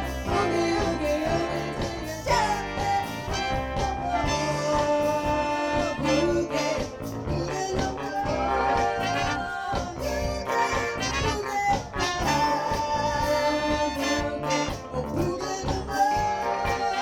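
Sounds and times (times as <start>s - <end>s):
bass guitar: 0.0s - 17.0s
drums: 0.0s - 17.0s
horn section: 0.0s - 17.0s
keyboard: 0.0s - 17.0s.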